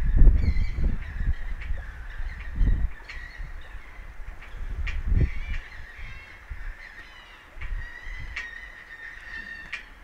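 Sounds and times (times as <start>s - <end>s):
birds calling: 0.0s - 10.0s
wind rumbling on microphone: 0.0s - 10.0s.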